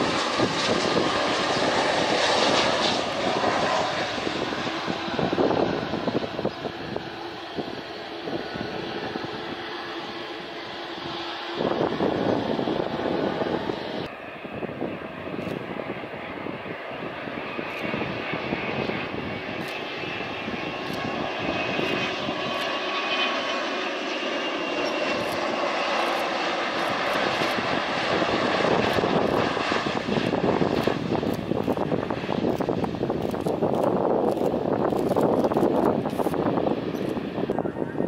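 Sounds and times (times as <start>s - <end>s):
airliner engines rushing: 0.0s - 38.0s.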